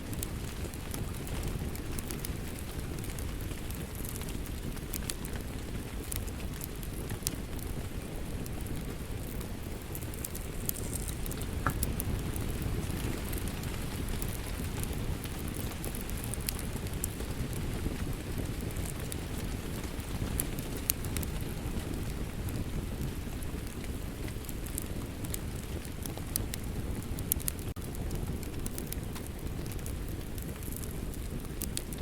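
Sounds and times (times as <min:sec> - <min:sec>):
steady rain: 0:00.0 - 0:32.0
wood fire crackling: 0:00.0 - 0:32.0.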